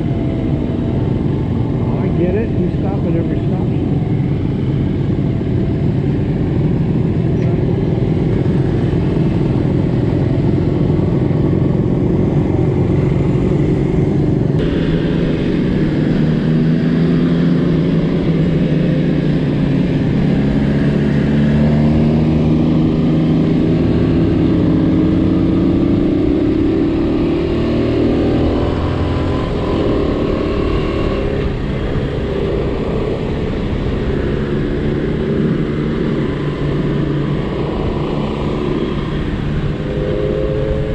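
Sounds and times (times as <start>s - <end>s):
motorcycle engine accelerating: 0.0s - 40.9s
wind rush: 0.0s - 40.9s.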